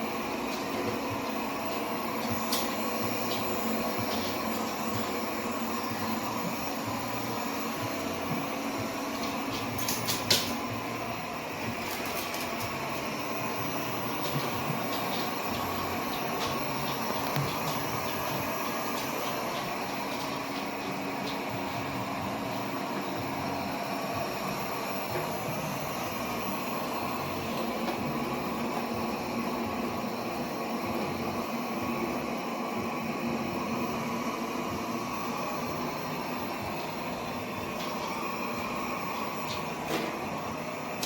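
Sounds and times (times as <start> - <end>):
robot vacuum cleaner running: 0.0 - 41.0.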